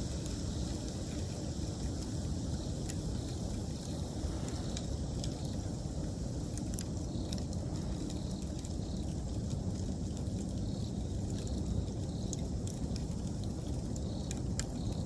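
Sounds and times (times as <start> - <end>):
bonfire rumbling: 0.0 - 15.0
fire crackles and pops: 0.0 - 15.0
insects chirping: 0.0 - 15.0.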